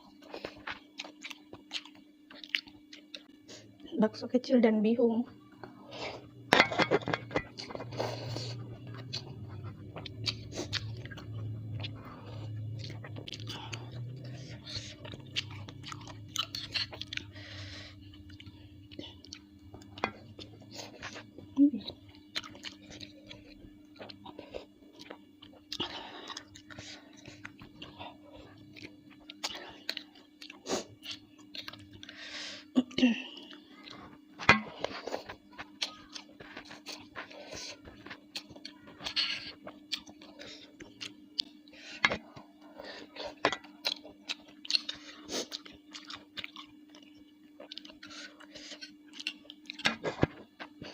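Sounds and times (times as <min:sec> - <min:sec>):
low steady hum: 0:00.0 - 0:50.9
person chewing with wet smacks: 0:00.1 - 0:03.4, 0:07.5 - 0:32.2, 0:32.9 - 0:50.9.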